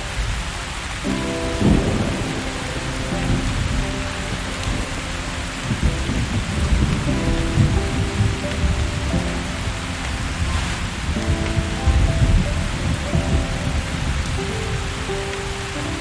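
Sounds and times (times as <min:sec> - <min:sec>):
low thunder rolls: 0:00.0 - 0:16.0
soft piano notes: 0:00.0 - 0:16.0
steady rain: 0:00.0 - 0:16.0.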